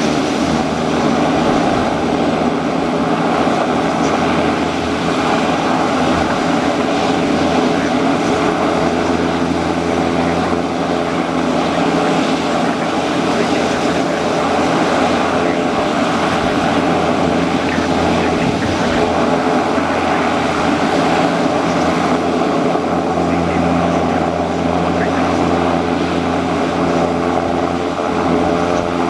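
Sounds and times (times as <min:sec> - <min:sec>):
turboprop engine droning: 0:00.0 - 0:29.0.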